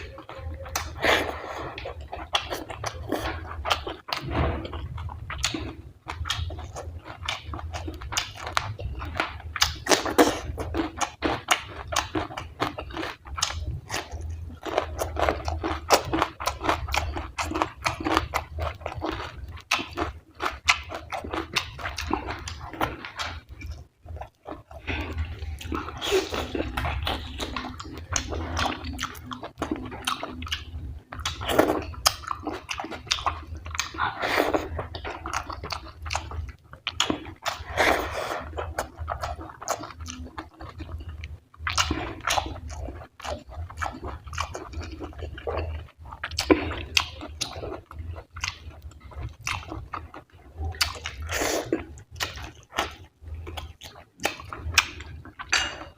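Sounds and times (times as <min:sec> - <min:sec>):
wet chewing mouth noises: 0:00.0 - 0:55.9.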